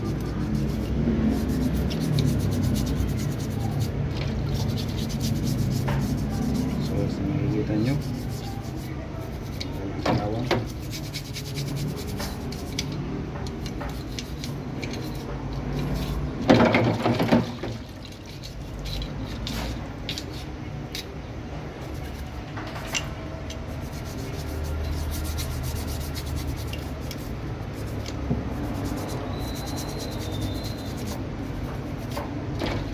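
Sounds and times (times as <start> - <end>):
toothbrush scrubbing metal: 0.0 - 32.9.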